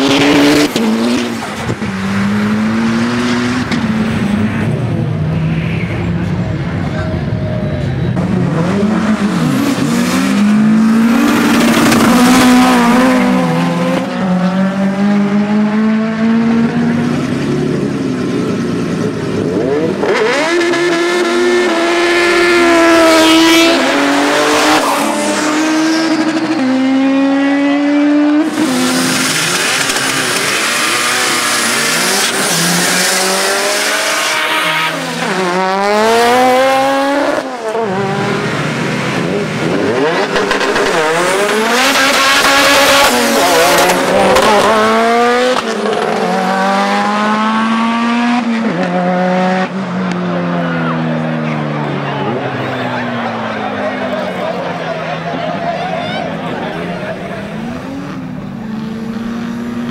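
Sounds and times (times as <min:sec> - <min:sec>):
race cars accelerating: 0:00.0 - 0:59.9.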